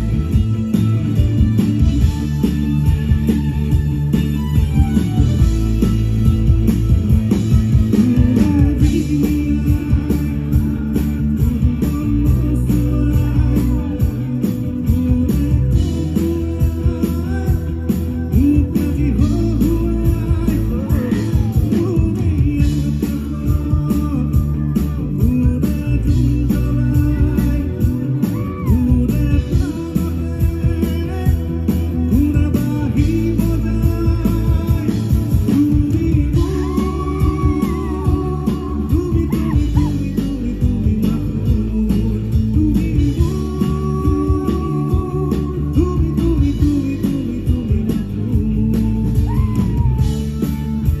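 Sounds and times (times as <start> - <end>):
bass guitar: 0.0 - 51.0
drum kit beat: 0.0 - 51.0
electric guitar: 0.0 - 51.0
man singing: 4.3 - 51.0.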